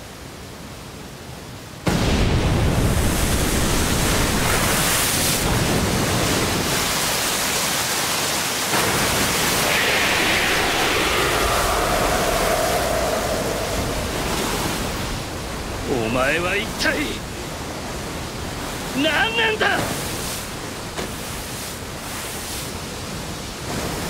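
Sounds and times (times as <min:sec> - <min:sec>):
rush of wind and water: 0:00.0 - 0:24.0
waterfall rushing: 0:02.6 - 0:22.0.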